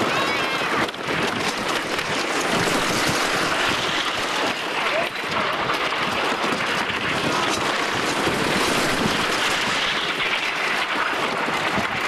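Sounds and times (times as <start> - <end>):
roller coaster rumbling on track: 0.0 - 12.0
wind rushing on microphone: 0.0 - 12.0.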